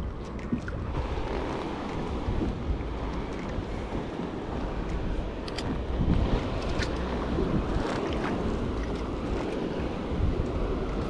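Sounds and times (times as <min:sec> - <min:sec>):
water lapping against kayak: 0:00.0 - 0:11.0
wind rumble on microphone: 0:00.0 - 0:11.0.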